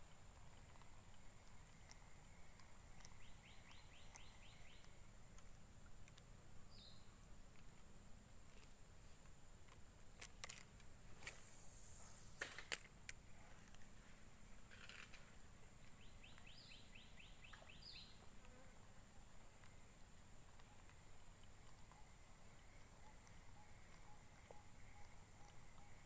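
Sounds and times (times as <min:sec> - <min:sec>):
insects chirping: 0:00.2 - 0:13.8, 0:14.6 - 0:26.0.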